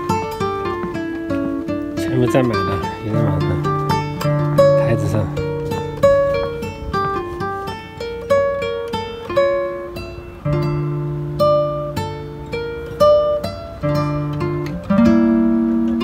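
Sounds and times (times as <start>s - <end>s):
plucked acoustic guitar melody: 0.0s - 16.0s.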